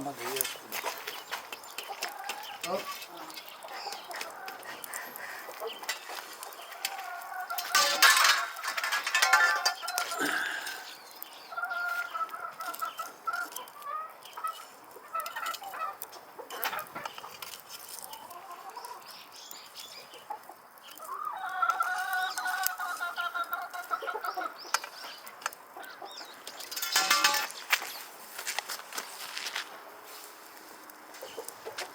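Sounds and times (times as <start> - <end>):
chickens clucking: 0.2 - 28.0, 30.8 - 31.9.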